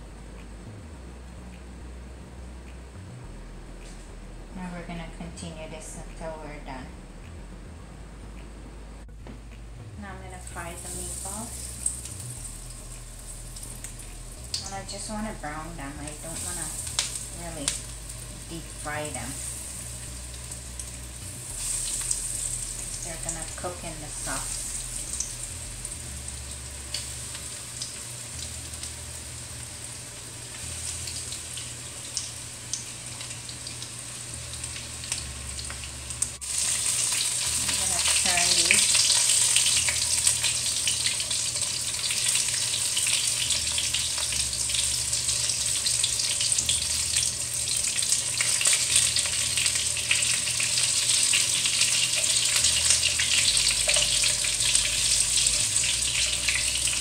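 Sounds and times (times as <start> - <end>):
meatballs sizzling in oil: 10.3 - 57.0.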